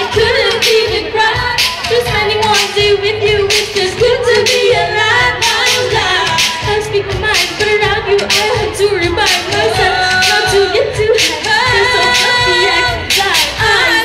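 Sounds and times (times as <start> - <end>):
steady beat: 0.0 - 14.0
women singing pop song: 0.0 - 14.0.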